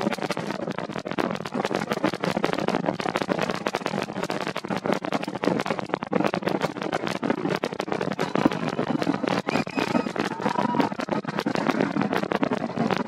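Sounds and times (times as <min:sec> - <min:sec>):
rocket exhaust crackling: 0:00.0 - 0:13.0.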